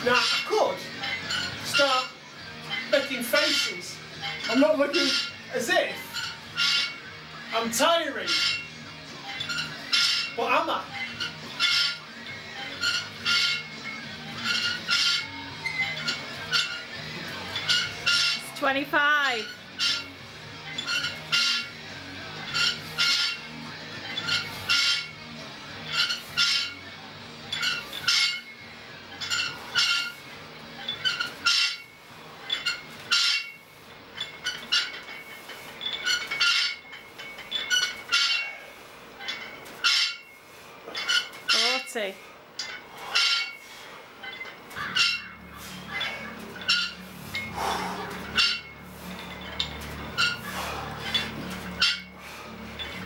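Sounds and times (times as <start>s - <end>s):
weight plates clinking: 0.0s - 53.0s.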